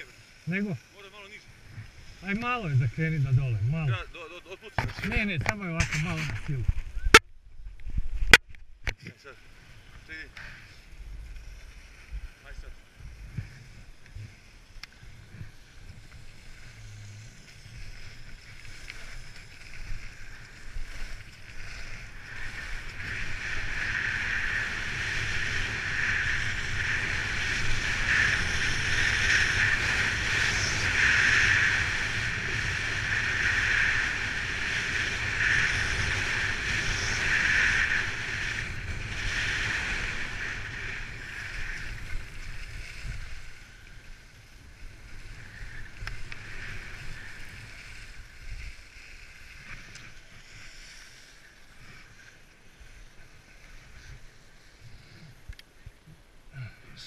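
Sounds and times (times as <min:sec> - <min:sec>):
skis scraping on snow: 0:00.0 - 0:06.7, 0:09.2 - 0:55.4
wind rumbling on microphone: 0:00.0 - 0:57.0.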